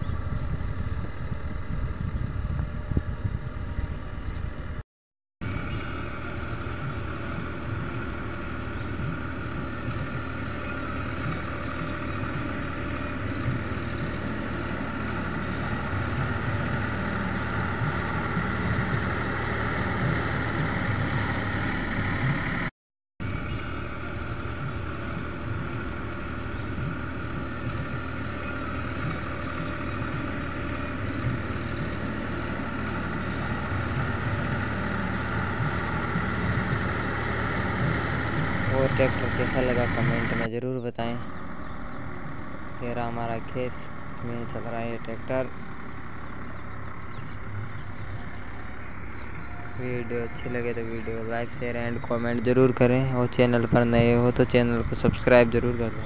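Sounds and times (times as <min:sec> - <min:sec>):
tractor diesel engine: 0:00.0 - 0:04.8, 0:05.4 - 0:56.0.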